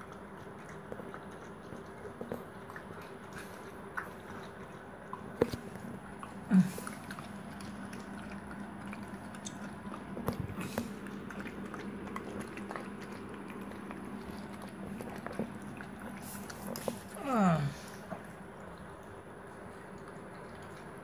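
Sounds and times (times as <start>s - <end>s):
puppy lapping and chewing food: 0.0s - 21.0s.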